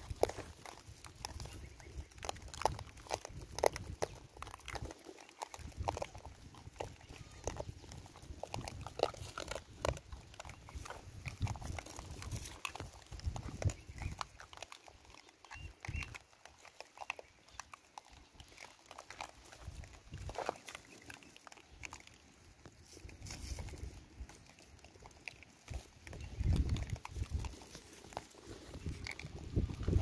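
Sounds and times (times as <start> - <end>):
clicks and scratches on stone: 0.0 - 30.0.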